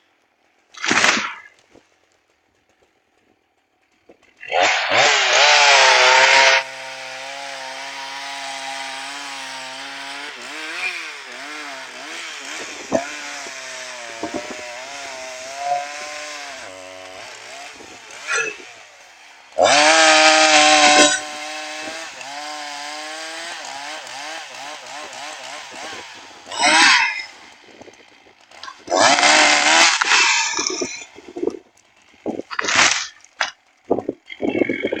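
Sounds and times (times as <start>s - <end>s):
chainsaw revving: 0.7s - 1.7s, 4.1s - 35.0s.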